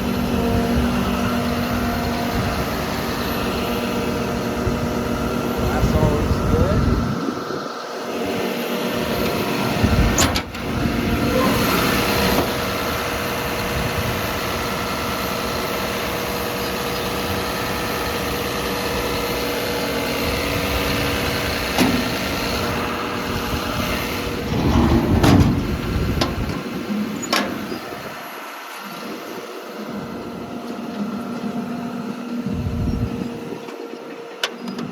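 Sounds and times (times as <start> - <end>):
diesel engine idling: 0.0 - 34.8.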